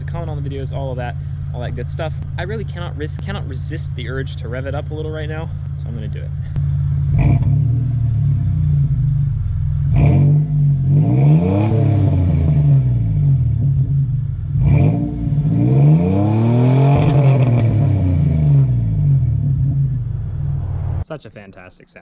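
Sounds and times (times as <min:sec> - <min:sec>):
truck engine idling and revving: 0:00.0 - 0:21.0.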